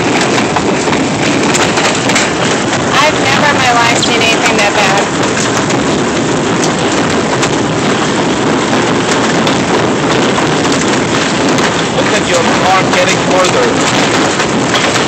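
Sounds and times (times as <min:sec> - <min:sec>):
hail and rain pelting: 0:00.0 - 0:15.0.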